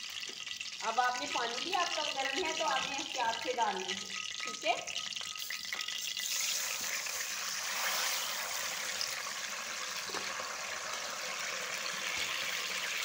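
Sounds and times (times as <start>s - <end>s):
liquid pouring into sizzling fat: 0.0s - 13.0s.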